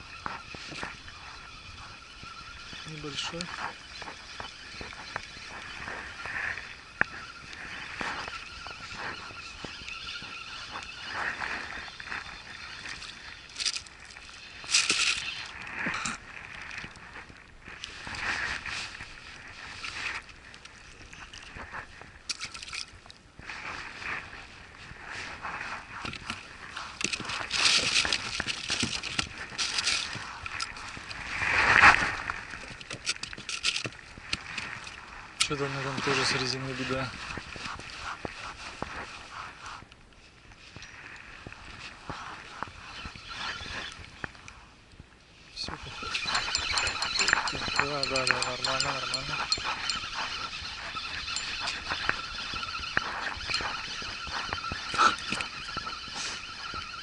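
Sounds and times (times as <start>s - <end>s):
fishing reel cranking with whine: 0.0s - 22.9s, 25.1s - 38.5s, 41.8s - 44.5s, 45.6s - 57.0s.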